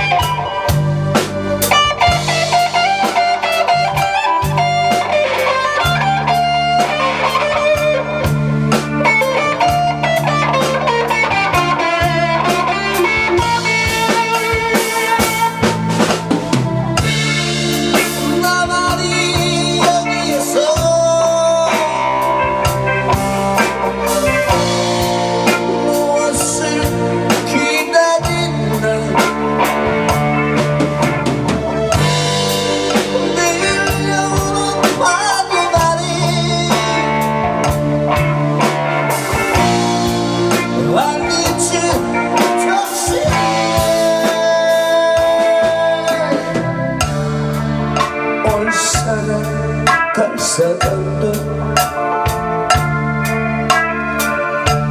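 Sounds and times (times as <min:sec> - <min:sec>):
drum kit with rimshots: 0:00.0 - 0:54.9
electric guitar lead: 0:00.0 - 0:54.9.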